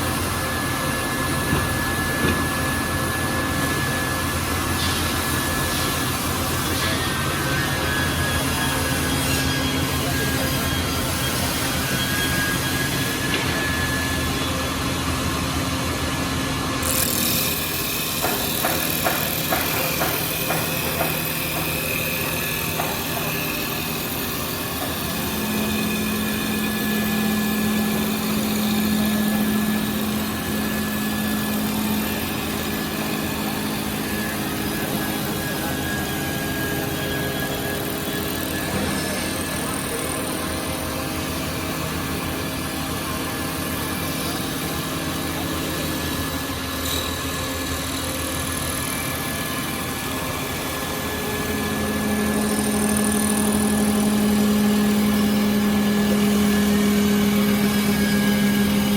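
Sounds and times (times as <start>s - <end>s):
wood lathe machine hum: 2.7s - 58.9s.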